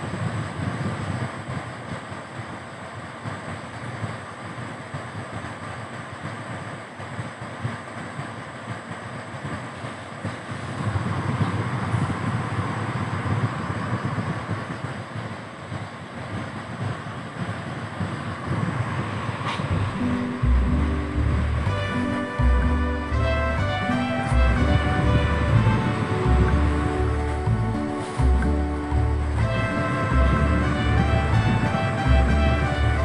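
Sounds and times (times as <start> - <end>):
wind noise: 0.0 - 33.0.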